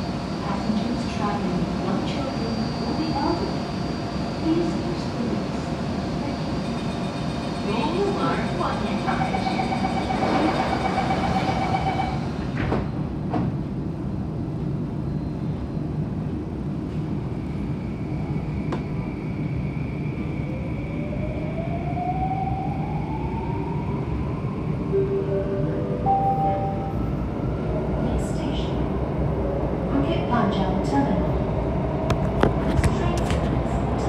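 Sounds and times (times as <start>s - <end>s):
train low rumble: 0.0s - 34.0s.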